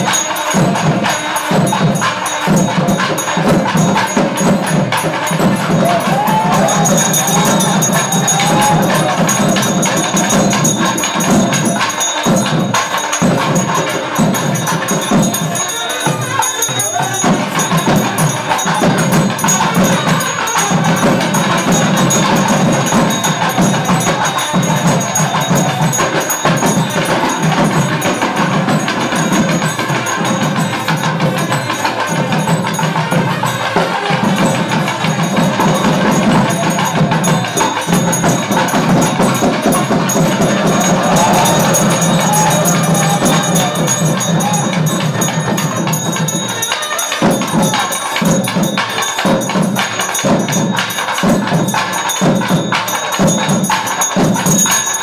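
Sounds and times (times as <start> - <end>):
loud dense percussion: 0.0 - 55.0.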